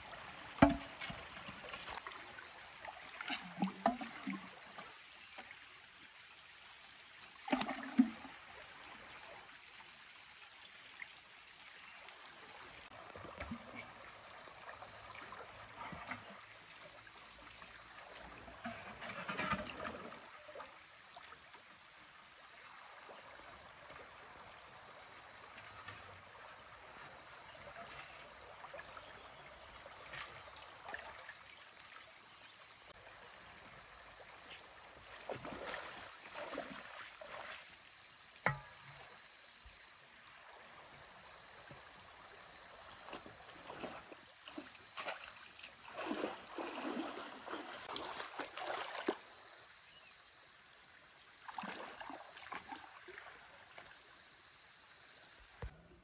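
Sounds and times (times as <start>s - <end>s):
water splashing and sloshing: 0.0s - 50.0s, 50.8s - 54.6s
trickle of flowing water: 0.0s - 55.8s.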